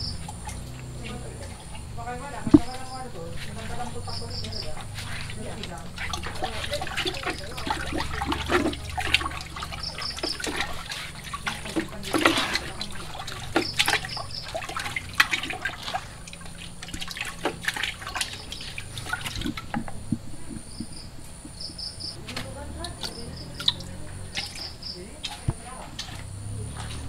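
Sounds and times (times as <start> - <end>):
water splashing in fish tank: 0.0 - 27.0.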